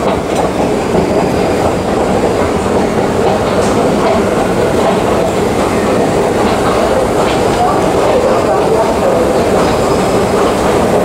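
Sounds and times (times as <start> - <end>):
subway train running on track: 0.0 - 11.0.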